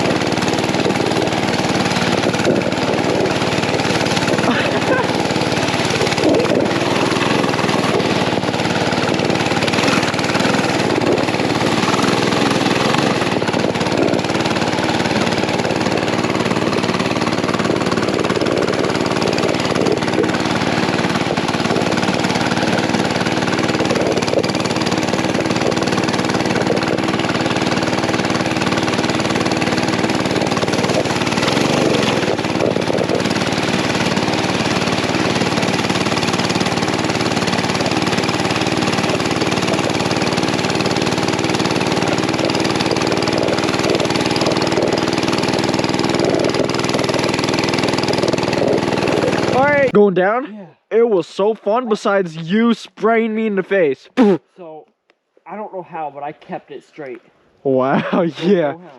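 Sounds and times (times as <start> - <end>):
constant rushing noise: 0.0 - 50.0
small engine running: 0.0 - 50.0.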